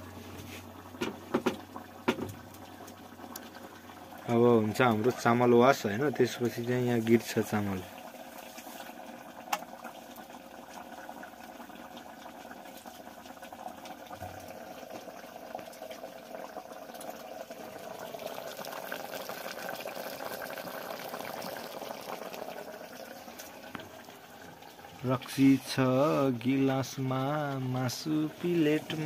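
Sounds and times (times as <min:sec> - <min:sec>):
pot bubbling and crackling: 0:00.0 - 0:29.0.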